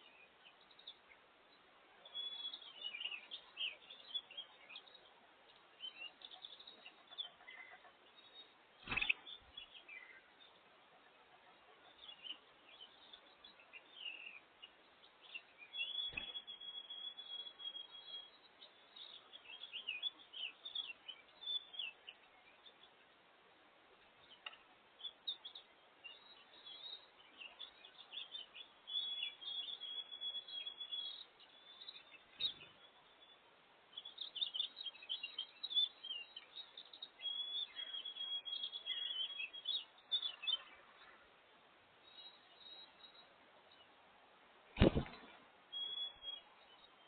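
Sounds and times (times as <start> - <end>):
songbirds chirping and twittering: 0.0 - 47.0.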